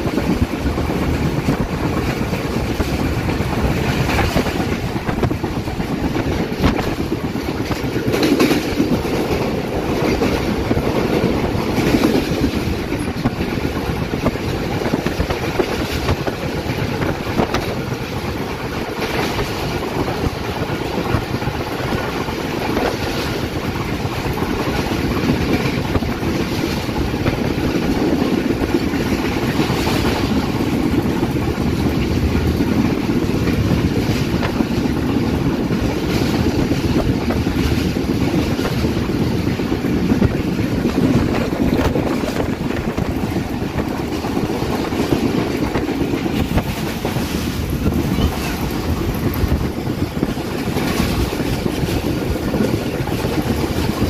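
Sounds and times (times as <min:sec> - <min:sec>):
train wheels rumbling on rails: 0:00.0 - 0:54.0
wind noise: 0:00.0 - 0:54.0.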